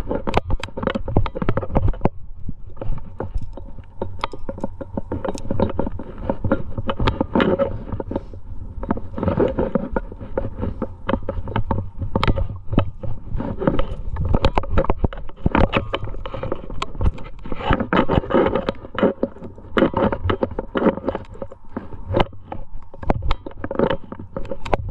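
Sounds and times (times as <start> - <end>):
climbing hardware clinking: 0.0 - 24.9
hands and shoes scraping rock: 0.0 - 24.9.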